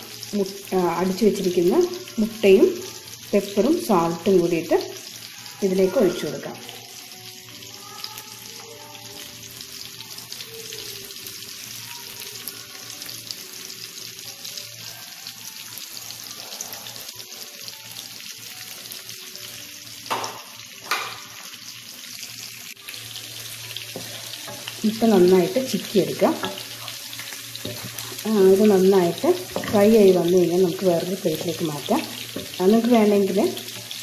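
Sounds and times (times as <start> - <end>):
egg sizzling in hot oil: 0.0 - 34.0.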